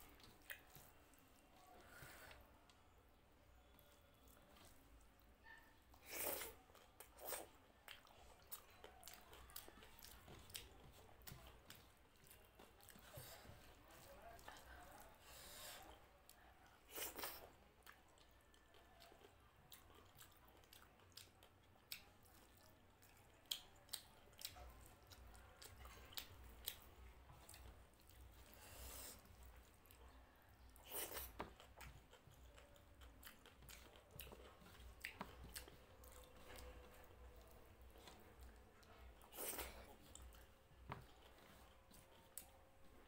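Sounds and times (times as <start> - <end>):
quiet chewing: 0.0 - 43.0.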